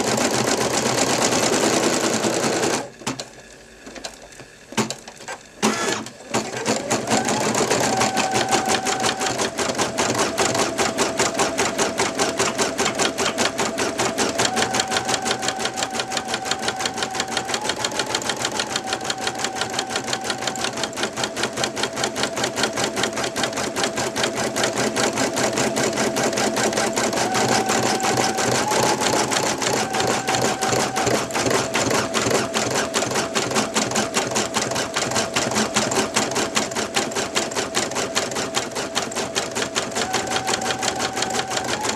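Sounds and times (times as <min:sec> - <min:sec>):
embroidery machine stitching: 0:00.0 - 0:41.9.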